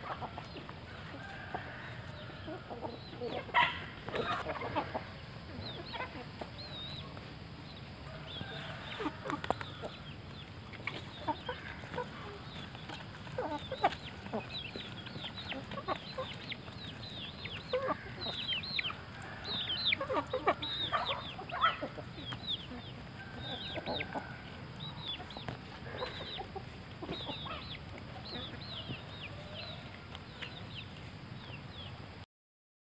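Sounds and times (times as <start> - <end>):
chickens clucking: 0.0 - 32.2.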